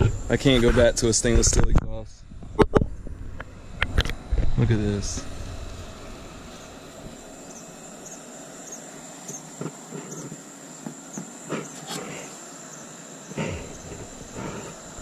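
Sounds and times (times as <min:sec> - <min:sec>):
steady background hiss: 0:00.0 - 0:15.0
thin high whine: 0:00.0 - 0:15.0.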